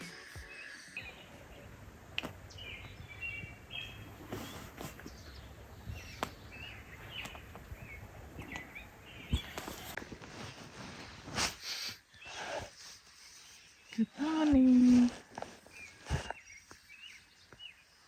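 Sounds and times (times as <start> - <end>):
outdoor background noise: 0.0 - 18.0
small birds chirping: 0.0 - 18.0.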